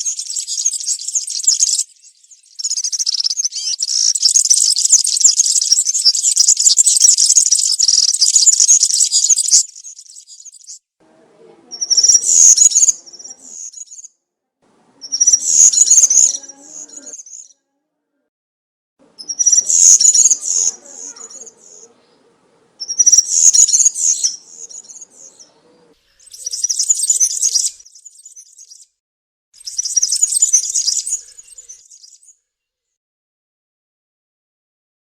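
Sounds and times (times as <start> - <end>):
bird singing jingling song: 0.0 - 10.8, 11.7 - 14.1, 15.0 - 17.6, 19.1 - 29.0, 29.6 - 32.5.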